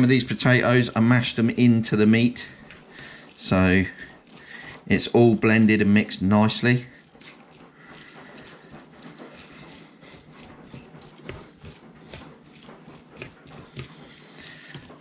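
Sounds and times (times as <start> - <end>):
soft squishing of food mixing: 0.0 - 15.0.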